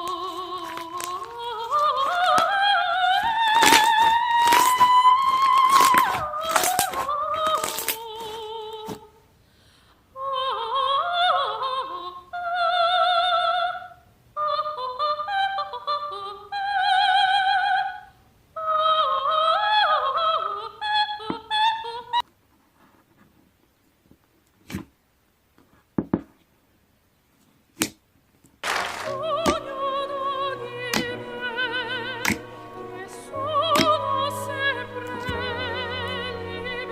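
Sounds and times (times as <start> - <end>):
operatic soprano singing: 0.0 - 9.2, 10.1 - 22.2, 28.7 - 36.9.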